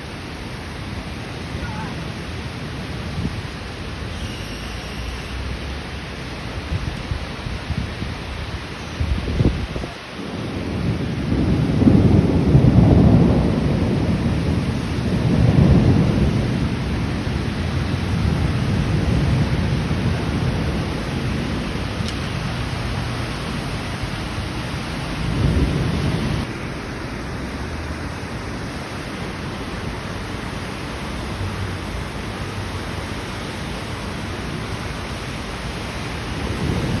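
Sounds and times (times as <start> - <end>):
heavy rain pouring: 0.0 - 37.0
thunder rumbling: 0.0 - 37.0.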